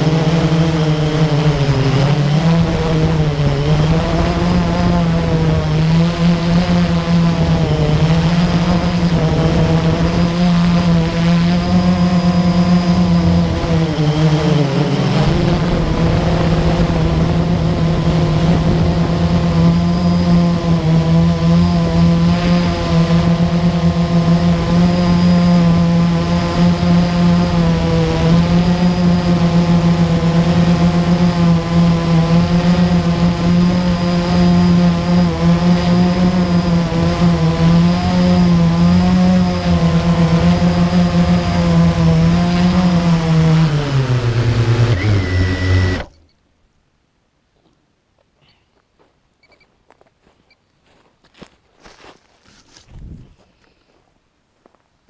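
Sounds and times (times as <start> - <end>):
drone propellers humming: 0.0 - 46.4.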